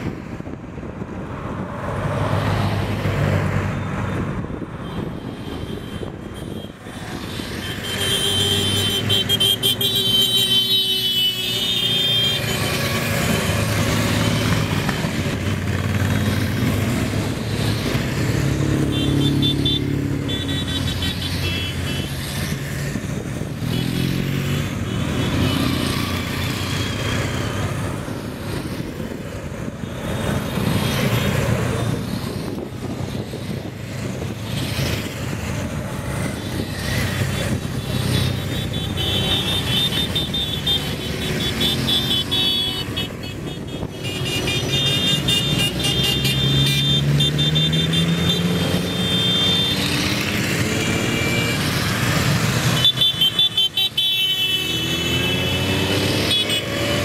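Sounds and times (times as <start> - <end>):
convoy of vehicles driving past: 0.0 - 57.0.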